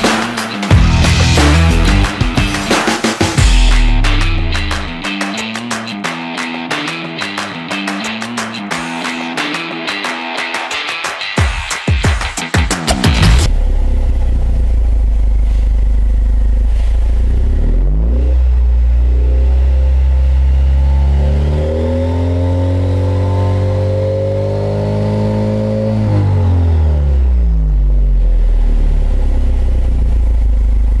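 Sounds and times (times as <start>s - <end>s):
car engine idling and revving: 0.0s - 9.6s, 12.8s - 31.0s.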